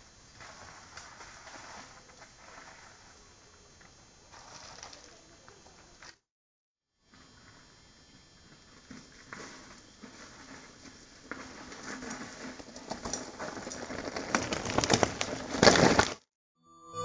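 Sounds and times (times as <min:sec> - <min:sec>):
bike tyres crunching over gravel: 0:00.0 - 0:06.2, 0:07.2 - 0:16.3.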